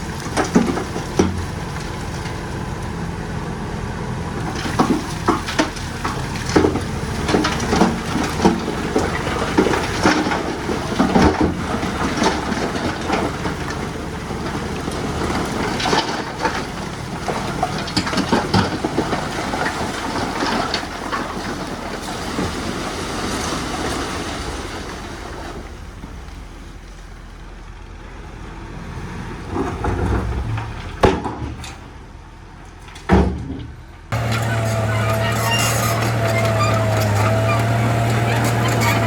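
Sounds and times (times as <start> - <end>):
machinery rattling and clanking: 0.0 - 22.7, 25.9 - 39.0
diesel engine: 0.0 - 39.0.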